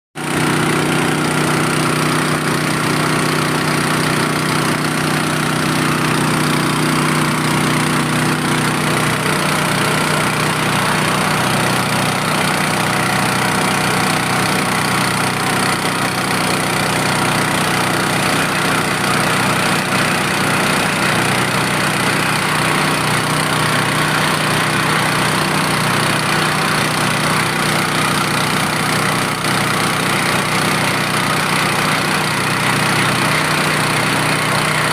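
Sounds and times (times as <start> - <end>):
engine-driven drilling machine: 0.2 - 34.9.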